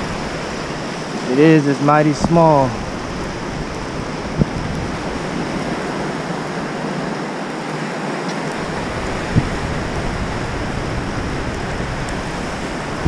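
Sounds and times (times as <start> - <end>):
surf washing on beach: 0.0 - 13.0
wind rumbling on microphone: 0.0 - 13.0.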